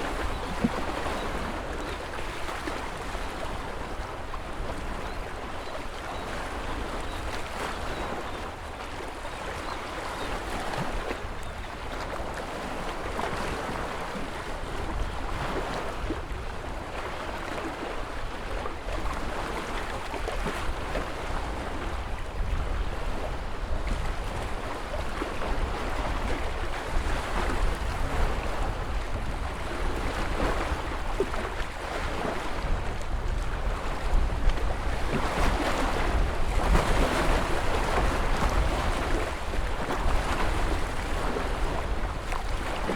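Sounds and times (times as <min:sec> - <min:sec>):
wind rumble on microphone: 0:00.0 - 0:42.9.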